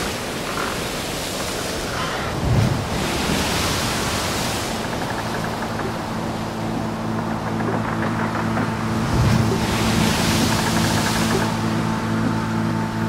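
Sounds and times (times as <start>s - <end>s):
sea wash: 0.0s - 13.0s
steady low hum: 0.0s - 13.0s.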